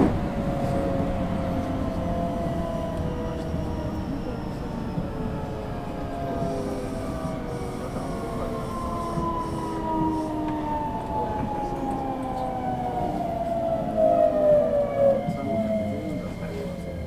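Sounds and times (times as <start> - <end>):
rumble of wheels on rail: 0.0 - 17.0
train traction motor whine: 0.0 - 17.0.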